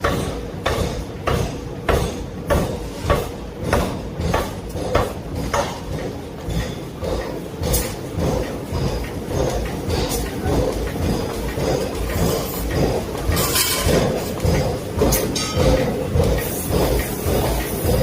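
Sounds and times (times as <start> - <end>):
forging hammer striking hot metal: 0.0 - 18.0
machinery hum: 0.0 - 18.0.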